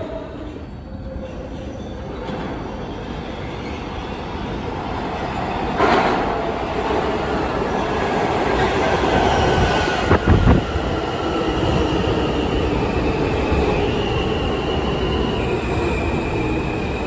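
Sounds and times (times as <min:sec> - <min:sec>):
subway train wheels rumbling on rail: 0:00.0 - 0:17.0.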